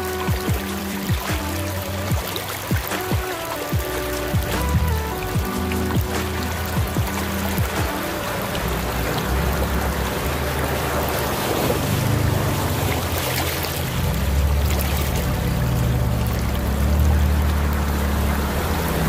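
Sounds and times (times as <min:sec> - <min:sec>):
creek water running: 0:00.0 - 0:19.0
truck engine humming: 0:00.0 - 0:19.0
tyres splashing through water: 0:00.0 - 0:19.0.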